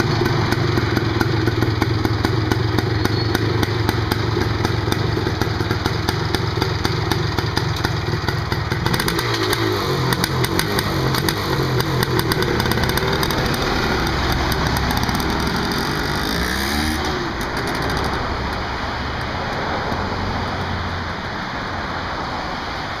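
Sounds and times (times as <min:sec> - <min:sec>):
two-stroke motorcycle engine running: 0:00.0 - 0:20.8.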